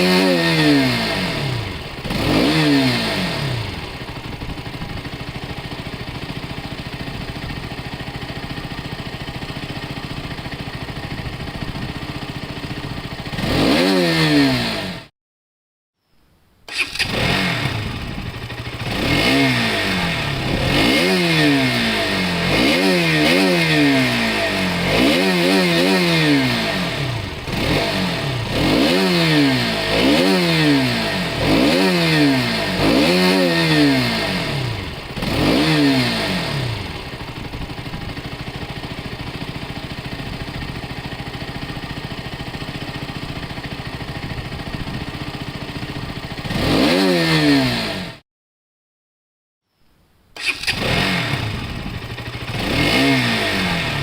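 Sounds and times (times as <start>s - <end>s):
motorcycle engine revving: 0.0s - 15.1s, 16.7s - 48.2s, 50.4s - 54.0s.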